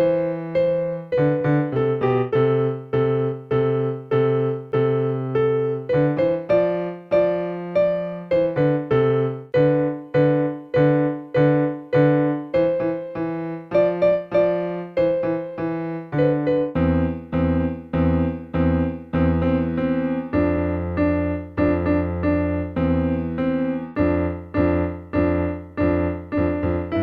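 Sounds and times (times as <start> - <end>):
electronic keyboard notes: 0.0 - 27.0.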